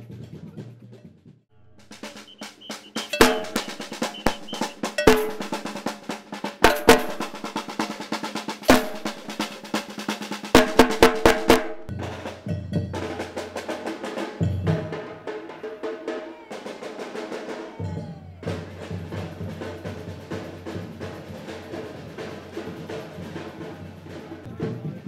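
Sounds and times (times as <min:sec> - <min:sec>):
snare and bass drums playing: 0:01.7 - 0:25.0.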